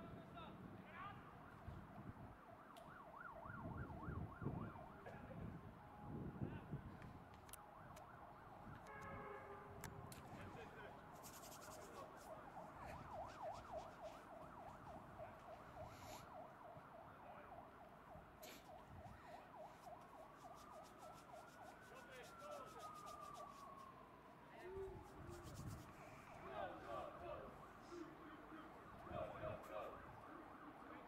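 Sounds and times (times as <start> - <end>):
faint yelping siren: 1.1 - 31.0.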